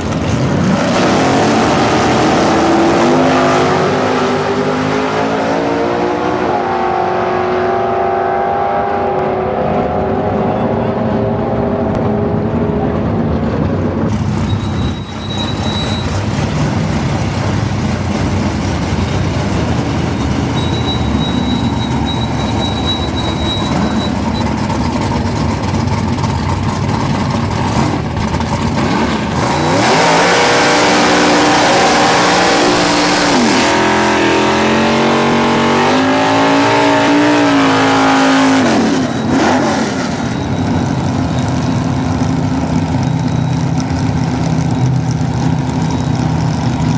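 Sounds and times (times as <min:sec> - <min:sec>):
car engine revving: 0:00.1 - 0:14.8, 0:15.5 - 0:46.9.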